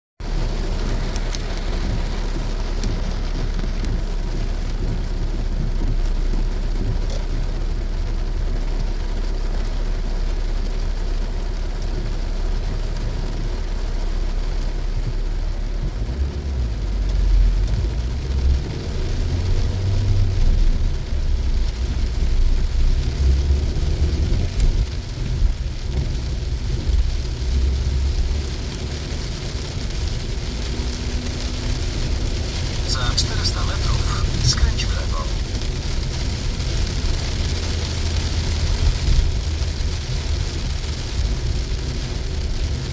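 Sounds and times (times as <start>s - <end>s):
car road noise: 0.2s - 42.9s
deep uneven rumble: 0.2s - 42.9s
heavy rain on a car: 0.2s - 42.9s.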